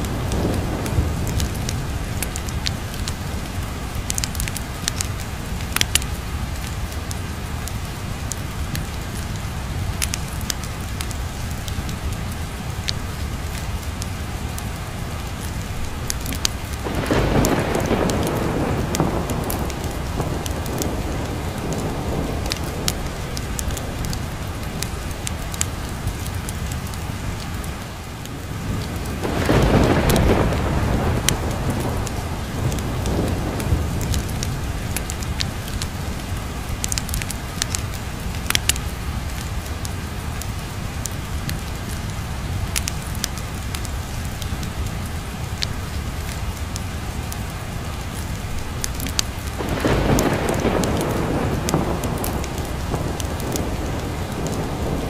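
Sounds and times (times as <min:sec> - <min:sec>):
thunder rumbling: 0:00.0 - 0:46.3, 0:47.4 - 0:55.0
sharp crackles: 0:00.0 - 0:55.0
steady rain: 0:00.0 - 0:55.0.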